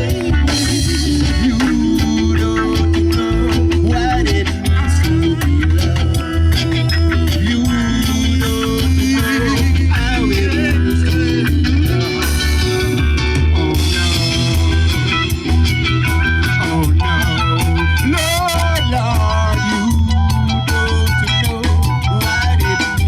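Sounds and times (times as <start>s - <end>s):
bass line: 0.0s - 23.0s
bending guitar lead line: 0.0s - 23.0s
drum beat: 0.0s - 23.0s.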